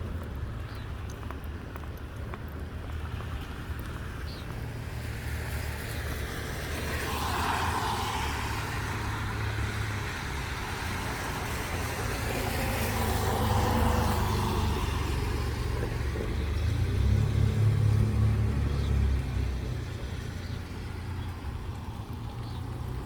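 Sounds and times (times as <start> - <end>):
motor vehicles passing: 0.0 - 23.0.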